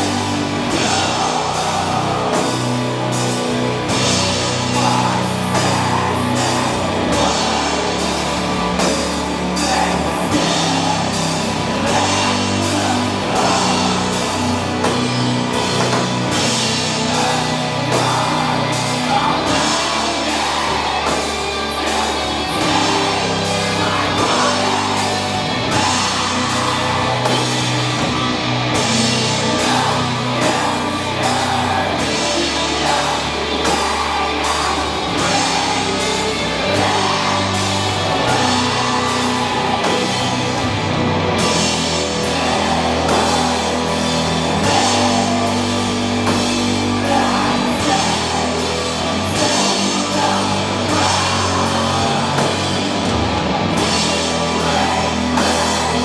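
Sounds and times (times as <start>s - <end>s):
distorted guitars and bass: 0.0s - 56.0s
drums and cymbals: 0.0s - 56.0s.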